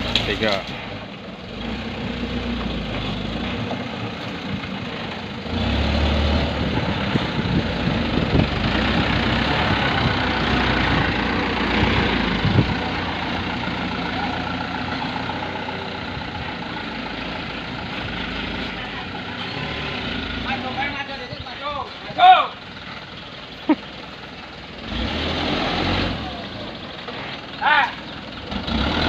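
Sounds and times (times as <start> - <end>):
dump truck engine running: 0.0 - 29.0.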